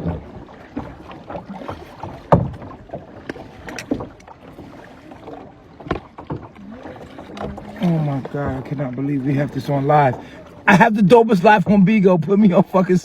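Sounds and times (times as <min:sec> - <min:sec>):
paddles splashing in water: 0:00.0 - 0:13.0.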